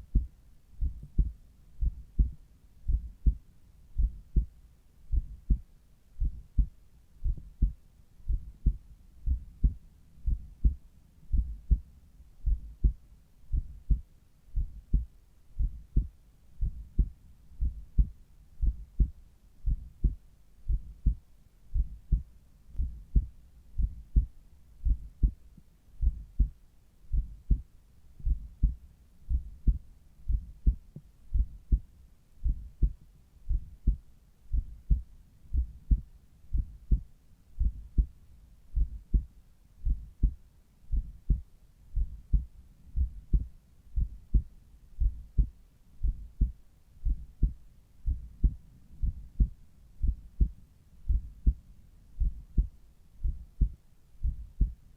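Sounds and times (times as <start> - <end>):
heartbeat through stethoscope: 0.0 - 3.4, 4.0 - 54.8.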